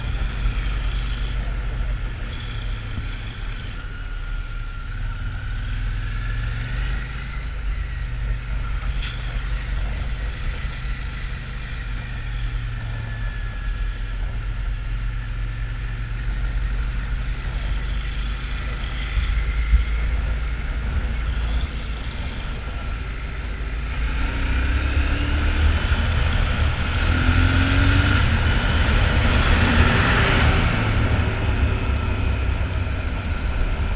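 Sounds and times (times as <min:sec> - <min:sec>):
motorcycle engine rumbling: 0:00.0 - 0:33.9.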